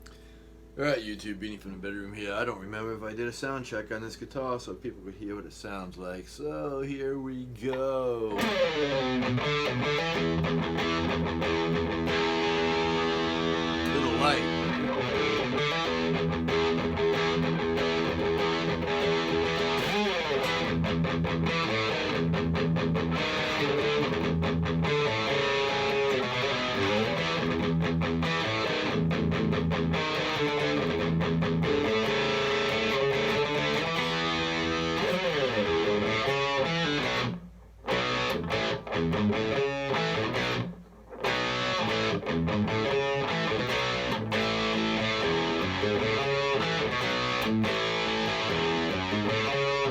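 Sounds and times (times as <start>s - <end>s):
electric guitar through amplifier: 7.7s - 49.9s.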